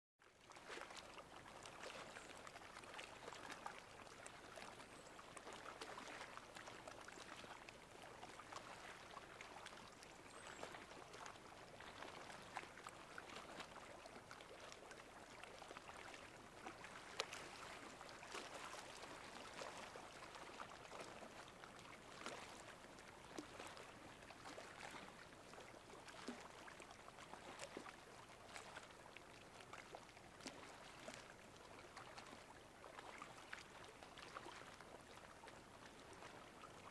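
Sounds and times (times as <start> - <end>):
water trickling and lapping: 0.2 - 36.9.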